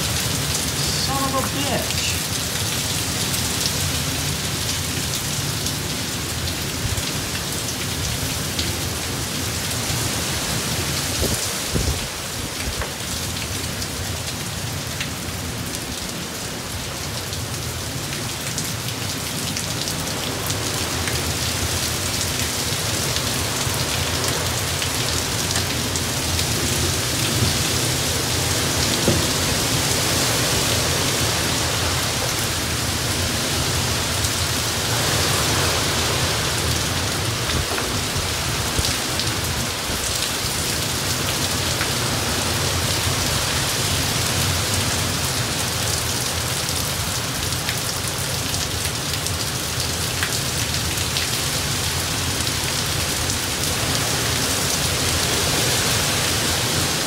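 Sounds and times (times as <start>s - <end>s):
gusting wind through trees: 0.0s - 49.0s
heavy rain pouring: 0.0s - 57.0s.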